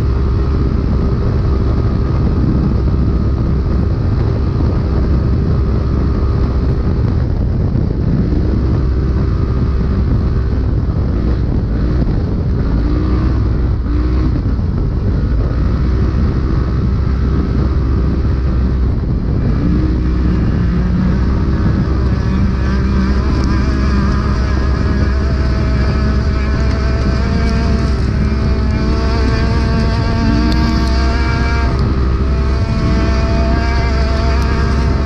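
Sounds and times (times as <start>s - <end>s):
engine revving inside cab: 0.0s - 35.0s
heavy low rumble: 0.0s - 35.0s.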